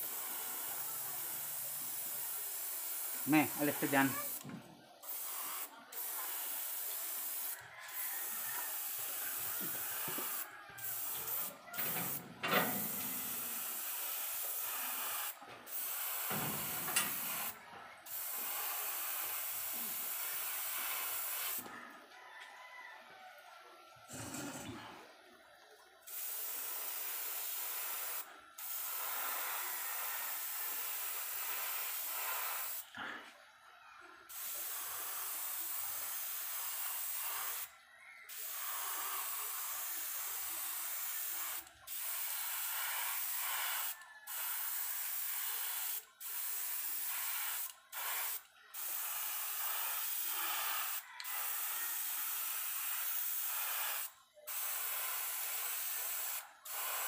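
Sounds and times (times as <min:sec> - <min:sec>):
airbrush spraying hiss: 0:00.1 - 0:21.6, 0:26.1 - 0:29.4, 0:30.3 - 0:32.9, 0:34.3 - 0:37.7, 0:38.3 - 0:51.6, 0:52.5 - 0:57.0.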